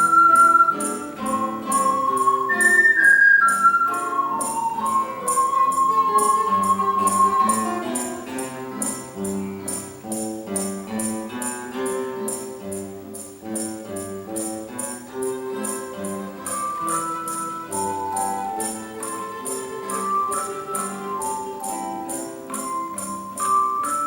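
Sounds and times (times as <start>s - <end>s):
jingling percussion beat: 0.0s - 24.0s.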